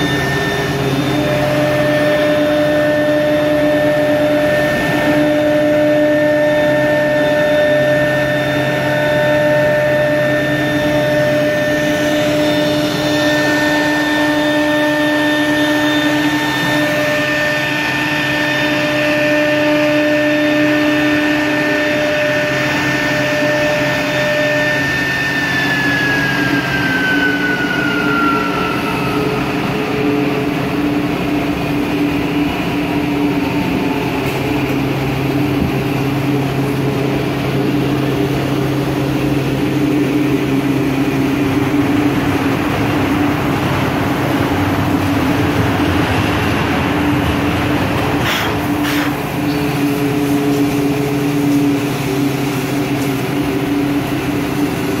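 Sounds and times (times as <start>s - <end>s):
high spindle whine: 0.0s - 55.0s
machine hum: 0.0s - 55.0s.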